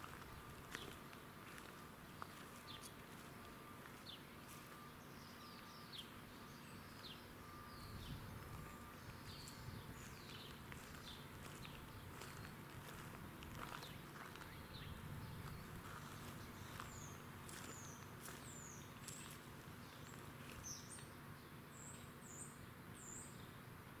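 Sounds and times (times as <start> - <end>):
bird chirps: 2.1 - 13.0, 13.6 - 23.6.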